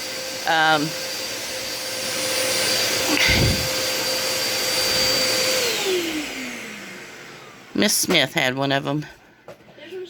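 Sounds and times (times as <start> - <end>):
vacuum cleaner motor whine: 0.0 - 8.8.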